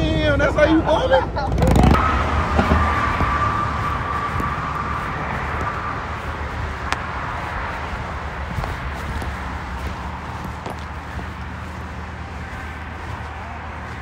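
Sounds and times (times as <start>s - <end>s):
street traffic rush: 0.0s - 14.0s.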